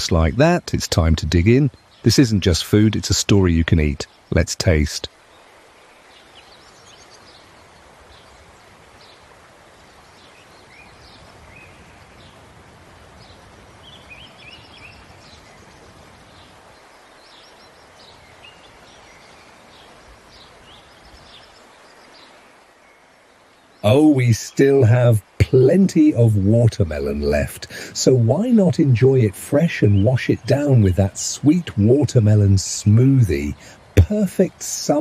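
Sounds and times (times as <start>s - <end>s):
outdoor hiss: 0.0s - 35.0s
small birds chirping and trilling: 1.5s - 2.9s, 5.2s - 12.5s, 13.1s - 32.5s.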